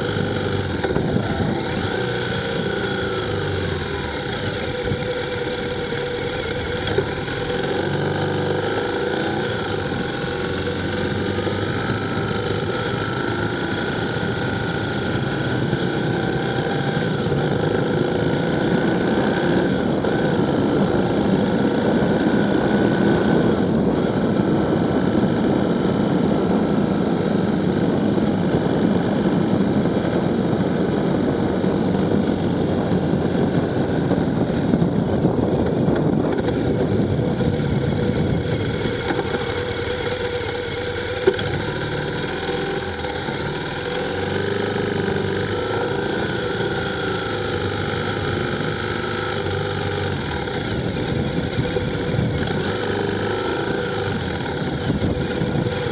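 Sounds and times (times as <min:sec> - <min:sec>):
vehicle engine hum: 0:00.0 - 0:55.9
wind and road rush: 0:00.0 - 0:55.9.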